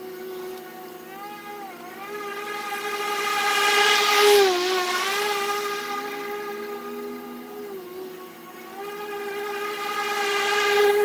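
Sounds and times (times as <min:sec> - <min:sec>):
battery lawn mower whining: 0:00.0 - 0:11.0.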